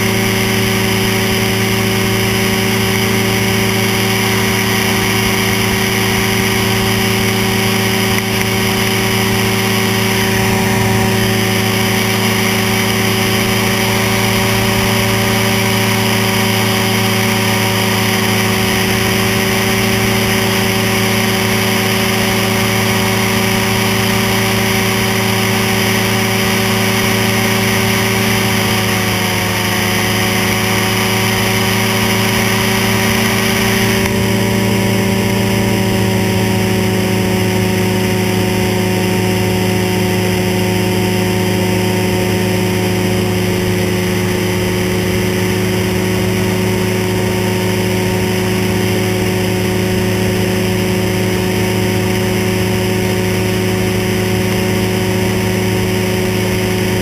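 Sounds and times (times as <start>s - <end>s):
aircraft engine and propeller: 0.0s - 57.0s.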